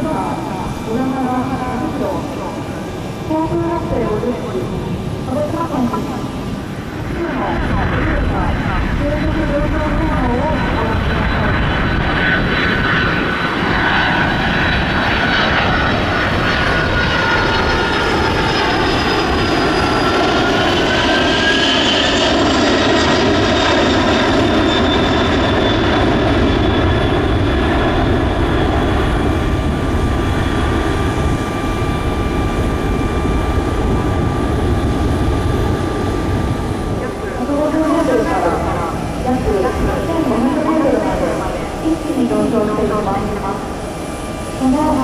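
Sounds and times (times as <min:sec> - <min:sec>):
jet engines roaring past: 0:00.0 - 0:45.0.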